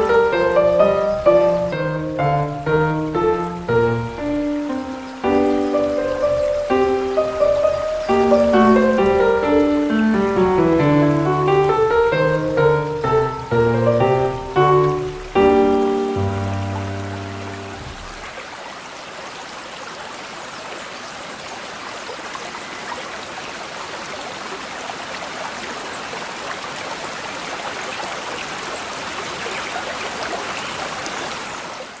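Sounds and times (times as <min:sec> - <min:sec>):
stream babbling: 0:00.0 - 0:32.0.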